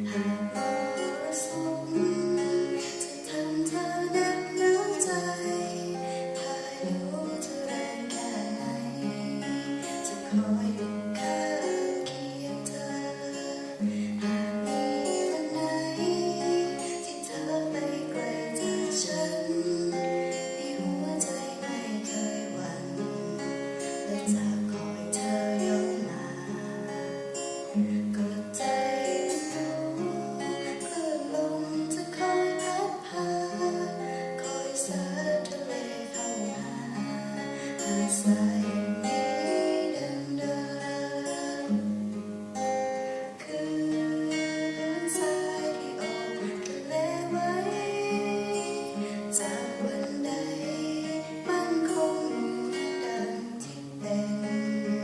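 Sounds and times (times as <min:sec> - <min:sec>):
classical guitar fingerstyle: 0:00.0 - 0:55.0.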